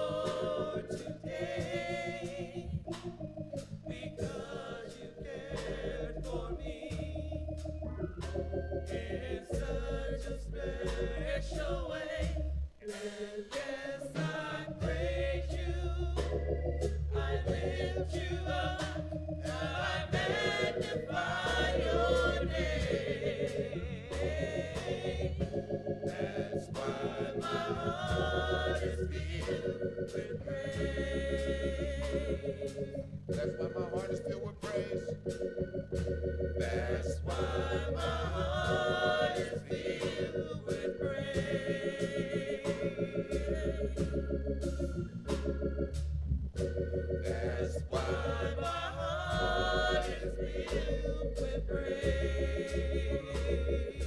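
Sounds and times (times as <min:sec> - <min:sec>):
bass and beat accompaniment: 0:00.0 - 0:54.0.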